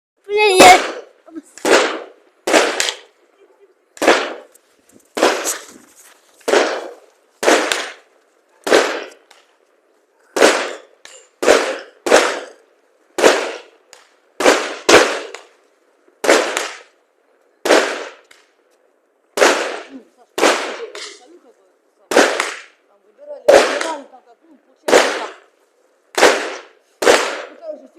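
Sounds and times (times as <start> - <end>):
fireworks bangs: 0.3 - 15.6, 16.2 - 18.6, 19.3 - 21.4, 22.0 - 24.2, 24.8 - 27.9.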